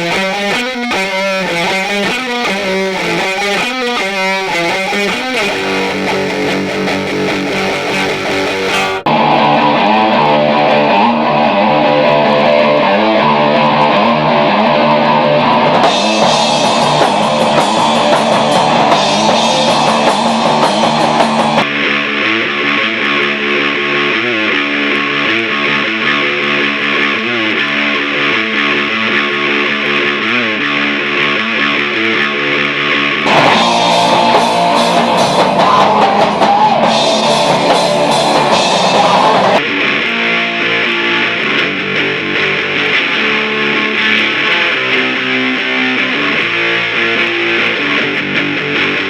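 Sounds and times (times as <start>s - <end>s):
distorted electric guitar riff: 0.0s - 49.0s
drums: 0.0s - 49.0s.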